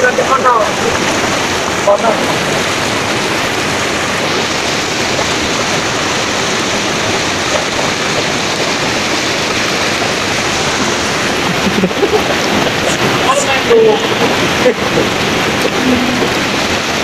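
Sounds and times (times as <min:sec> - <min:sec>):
river rushing over boulders: 0:00.0 - 0:17.0.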